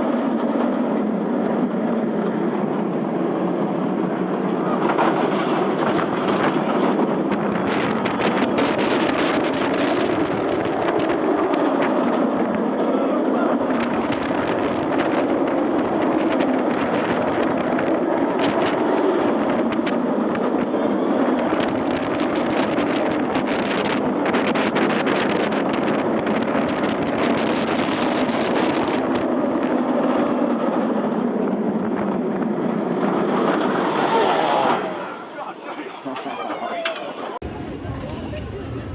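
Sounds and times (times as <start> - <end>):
wind rushing over microphone: 0.0 - 35.0, 37.4 - 38.9
roller coaster wheels rumbling on track: 0.0 - 38.9.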